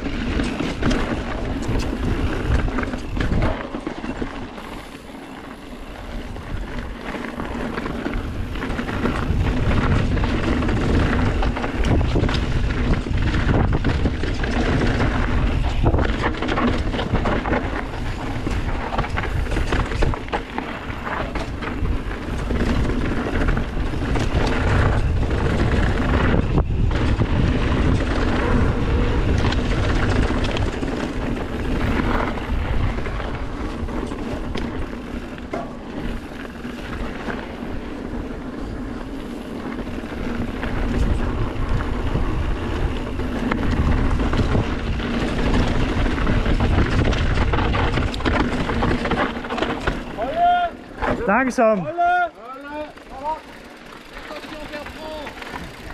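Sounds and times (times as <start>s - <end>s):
bike knocks and rattles: 0.0s - 51.5s, 52.5s - 55.9s
wind buffeting microphone: 0.0s - 52.1s
bike tyres rumbling on dirt: 0.0s - 55.9s.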